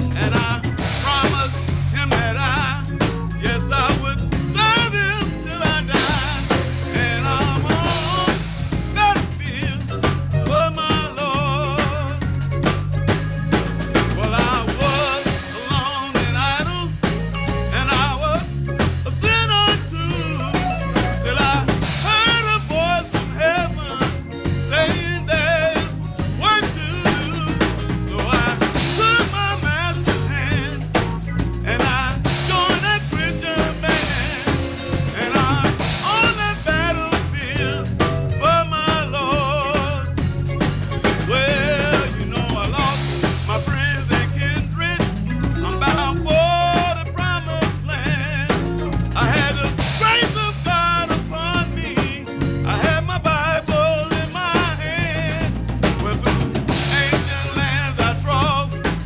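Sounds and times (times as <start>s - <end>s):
person singing with vibrato: 0.0s - 12.4s, 14.0s - 59.0s
bass: 0.0s - 59.0s
drum kit: 0.0s - 59.0s.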